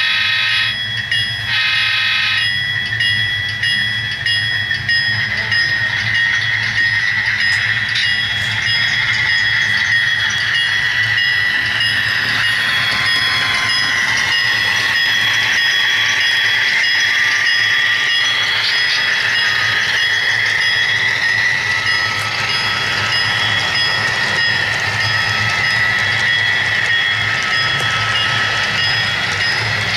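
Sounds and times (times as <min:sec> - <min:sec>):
model cars rolling on track: 0:00.0 - 0:29.9
model locomotive engine sound: 0:00.0 - 0:29.9
steady high tone: 0:00.0 - 0:29.9.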